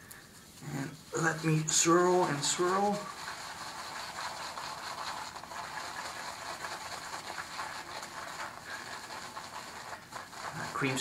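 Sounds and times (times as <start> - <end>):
shaving brush lathering cream: 0.4 - 11.0.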